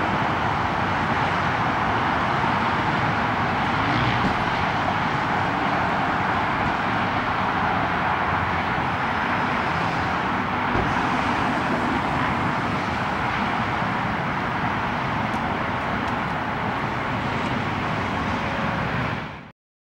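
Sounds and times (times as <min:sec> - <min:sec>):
road traffic noise: 0:00.0 - 0:19.5.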